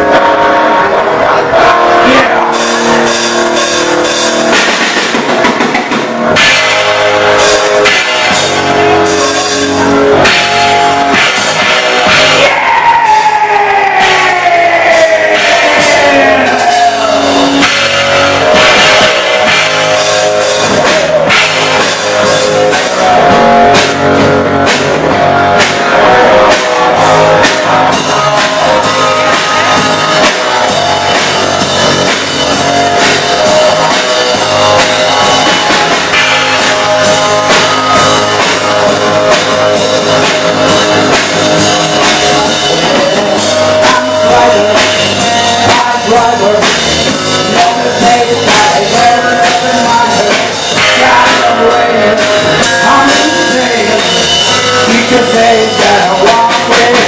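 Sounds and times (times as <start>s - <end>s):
drum kit: 0.0s - 57.0s
rock guitar: 0.0s - 57.0s.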